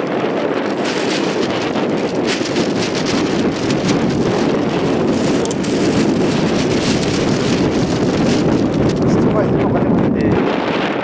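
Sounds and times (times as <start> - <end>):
scattered crackles: 0.0 - 10.5
wind buffeting microphone: 0.0 - 11.0.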